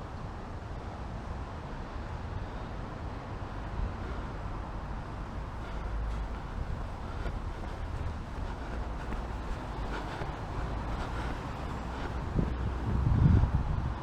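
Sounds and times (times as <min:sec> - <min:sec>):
low city street rumble: 0:00.4 - 0:14.0.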